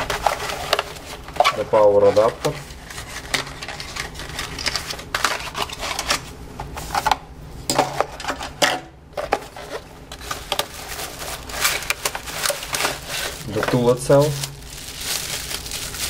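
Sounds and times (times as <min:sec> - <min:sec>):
cardboard and plastic rustling: 0:00.0 - 0:16.0.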